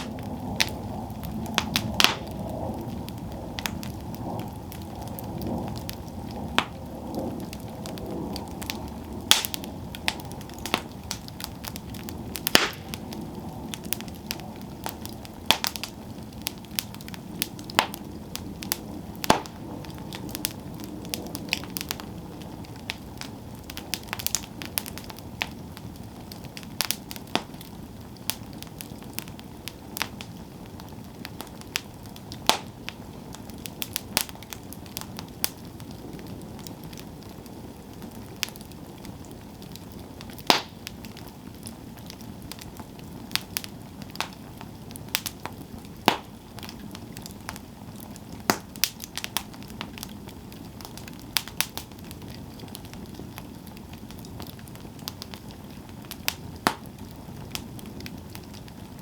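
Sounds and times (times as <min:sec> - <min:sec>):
campfire crackles and pops: 0:00.0 - 0:59.0
low rushing of flame: 0:00.0 - 0:59.0.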